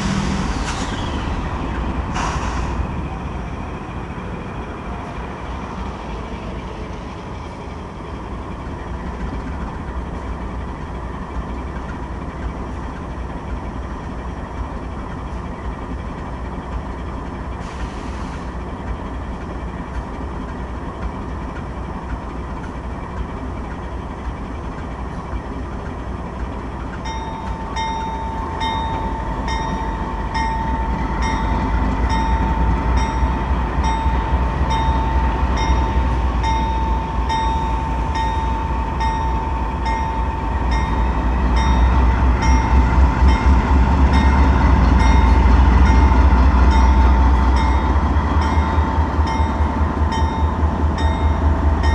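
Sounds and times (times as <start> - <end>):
freight train rumbling: 0.0 - 51.9.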